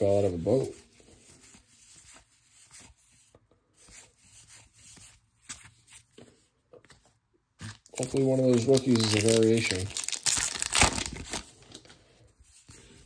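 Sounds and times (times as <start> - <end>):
cards being flipped through: 1.4 - 12.0.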